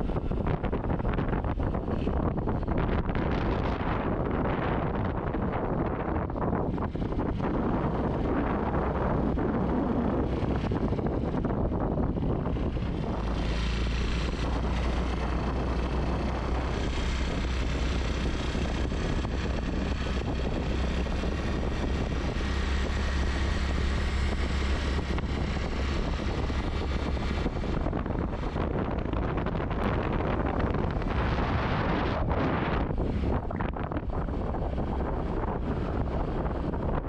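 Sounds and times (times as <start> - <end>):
tyres on the road: 0.0 - 37.0
wind rushing over microphone: 0.0 - 37.0.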